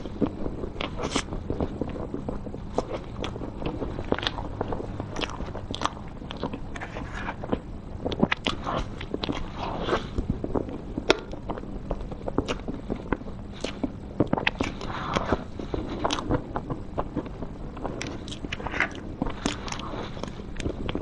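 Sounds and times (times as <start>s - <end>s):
chewing and wet mouth sounds: 0.0s - 21.0s.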